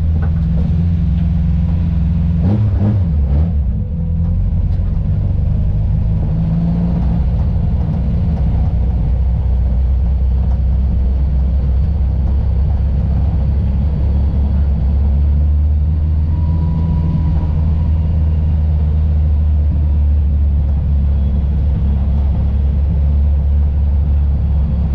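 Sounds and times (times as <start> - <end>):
car engine low drone: 0.0 - 24.9.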